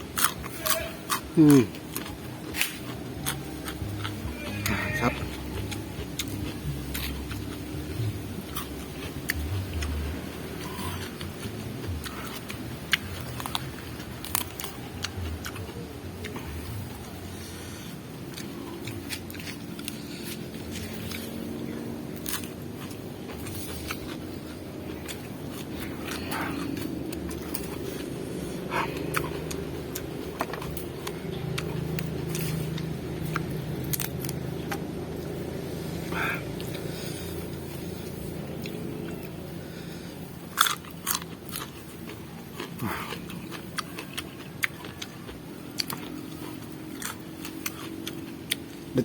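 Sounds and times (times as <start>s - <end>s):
low background hum: 0.0s - 49.0s
person chewing raw vegetables: 0.0s - 49.0s.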